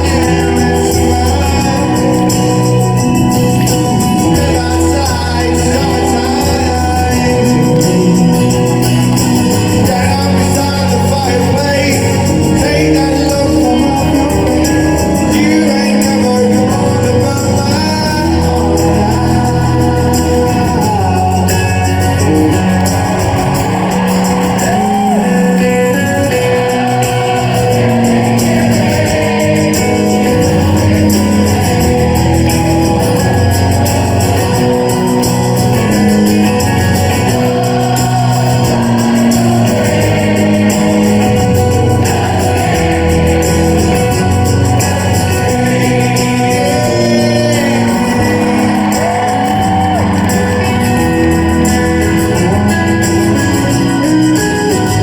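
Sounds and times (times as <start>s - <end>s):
guitars: 0.0s - 55.0s
live rock band playing: 0.0s - 55.0s
person singing: 0.0s - 55.0s
shaken tambourine: 0.0s - 55.0s.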